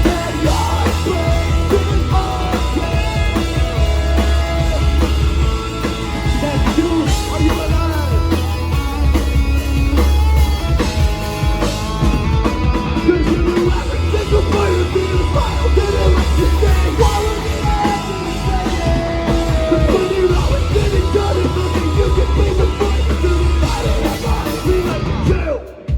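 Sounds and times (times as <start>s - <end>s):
person singing: 0.0s - 5.2s, 6.2s - 9.1s, 13.0s - 25.9s
drum kit: 0.0s - 25.9s
heavy bass: 0.0s - 25.9s
live rock band playing: 0.0s - 25.9s.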